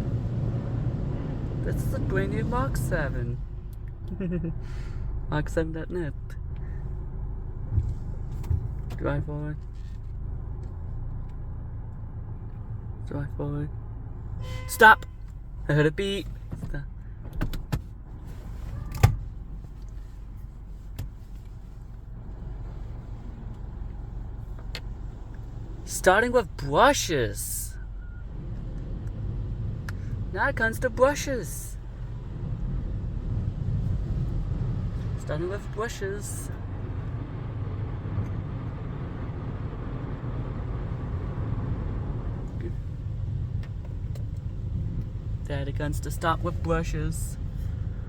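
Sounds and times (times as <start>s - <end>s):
car idling low rumble: 0.0s - 48.0s.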